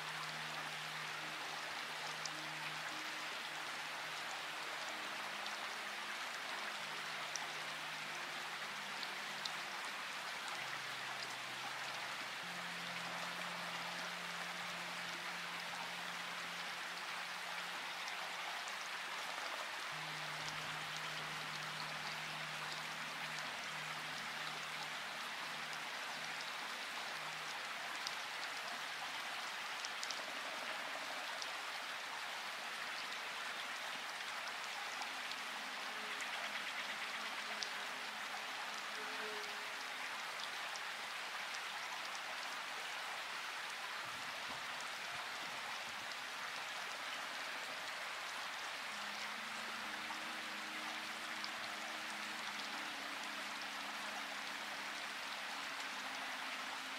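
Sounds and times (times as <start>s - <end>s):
steady rainfall: 0.0s - 56.9s.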